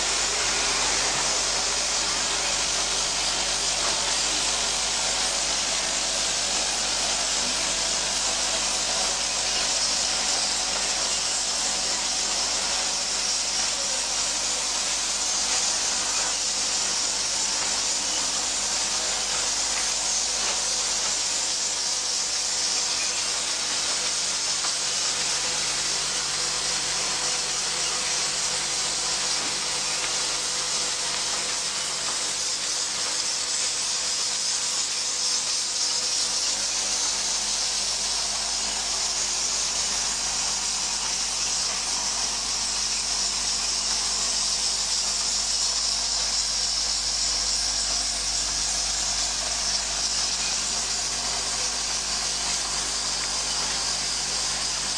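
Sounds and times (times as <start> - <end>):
machine high-pitched hiss: 0.0 - 54.9.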